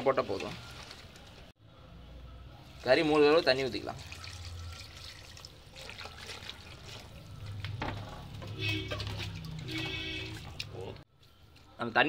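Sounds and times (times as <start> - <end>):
liquid sloshing: 0.0 - 1.5, 2.7 - 11.0.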